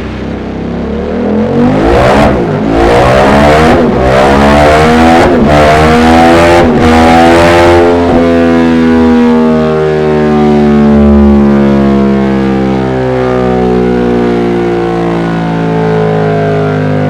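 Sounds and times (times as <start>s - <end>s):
motorcycle engine revving high: 0.0s - 17.0s.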